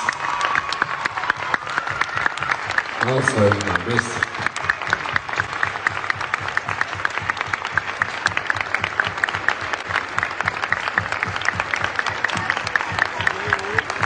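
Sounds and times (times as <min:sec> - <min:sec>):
audience applauding: 0:00.0 - 0:14.0
person clapping close by: 0:00.0 - 0:14.0.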